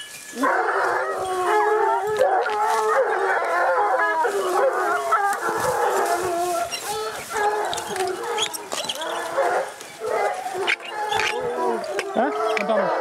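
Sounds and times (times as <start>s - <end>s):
pack of hounds baying: 0.0s - 13.0s.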